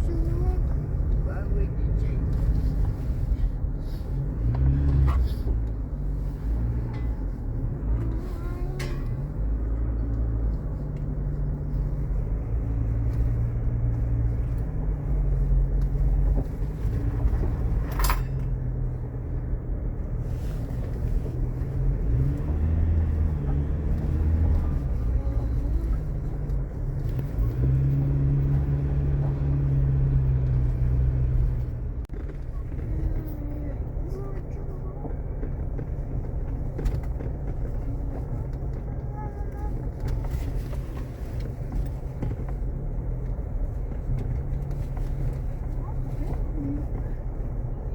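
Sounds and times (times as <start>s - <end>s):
vehicle engine running: 0.0s - 47.9s.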